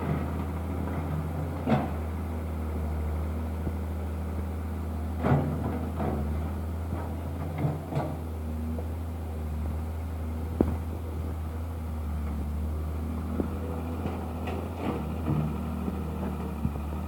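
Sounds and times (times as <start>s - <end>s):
excavator engine humming: 0.0s - 17.0s.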